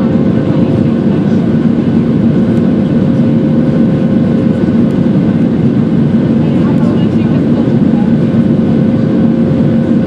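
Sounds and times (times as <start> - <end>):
jet engine roar in cabin: 0.0 - 10.0.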